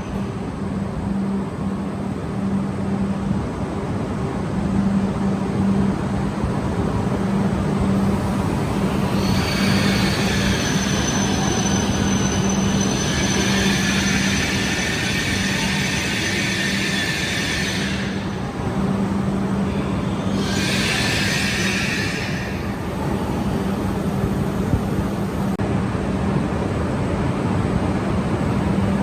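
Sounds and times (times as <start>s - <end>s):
train equipment humming: 0.0s - 29.0s
train moving off with high whine: 0.0s - 29.0s.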